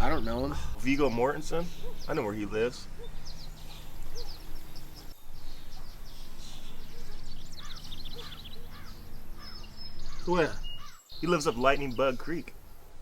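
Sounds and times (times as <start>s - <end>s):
steady low hum: 0.0s - 10.7s
small birds chirping: 0.0s - 13.0s.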